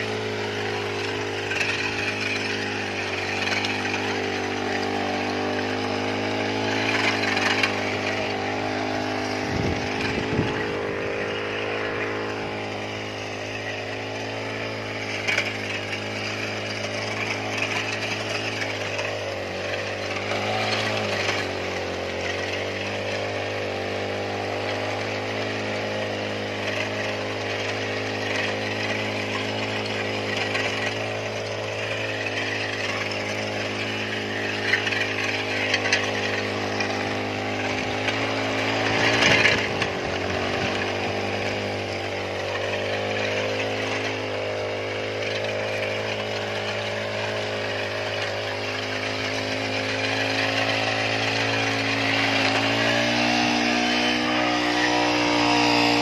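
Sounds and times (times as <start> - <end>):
brush cutter engine running: 0.0 - 56.0.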